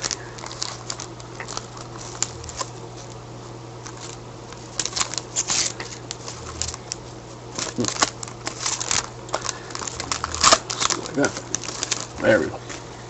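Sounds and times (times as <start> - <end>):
card packaging clicks and rustles: 0.0 - 3.2, 3.8 - 12.8
faint steady hum: 0.0 - 13.0.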